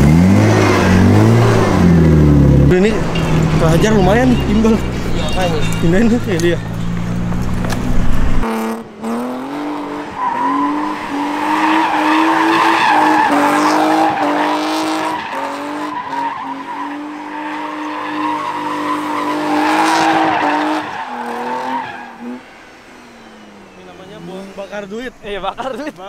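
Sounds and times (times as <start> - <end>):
car engine at high revs: 0.0 - 25.9
tyres squealing: 2.7 - 8.0, 10.1 - 26.0.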